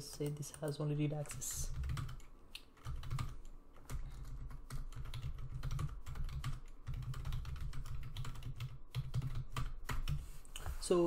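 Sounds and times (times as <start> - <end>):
computer keyboard typing: 0.0 - 10.2.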